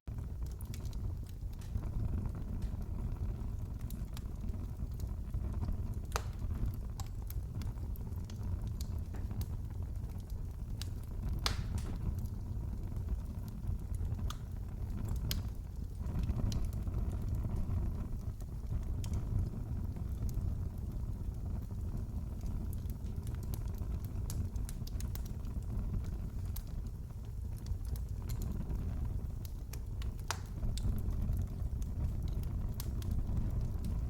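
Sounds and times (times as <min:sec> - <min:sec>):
fire low rumble: 0:00.1 - 0:34.0
wood fire crackling: 0:00.1 - 0:34.0.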